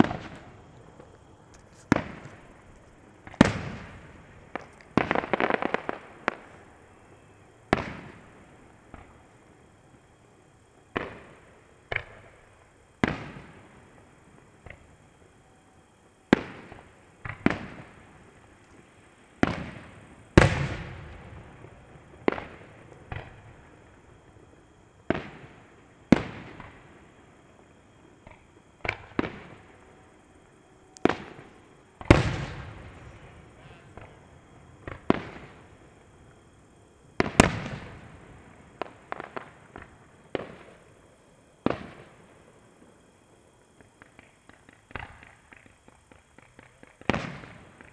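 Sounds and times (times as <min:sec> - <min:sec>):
fireworks exploding: 0:00.0 - 0:10.0, 0:10.8 - 0:15.1, 0:16.1 - 0:27.1, 0:28.2 - 0:30.0, 0:31.0 - 0:36.1, 0:37.0 - 0:47.9.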